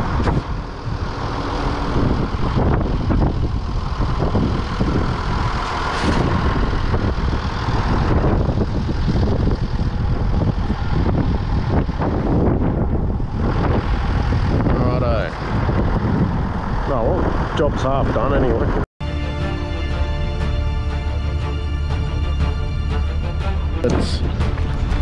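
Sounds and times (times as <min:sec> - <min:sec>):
diesel engine idling: 0:00.0 - 0:14.8, 0:19.0 - 0:25.0.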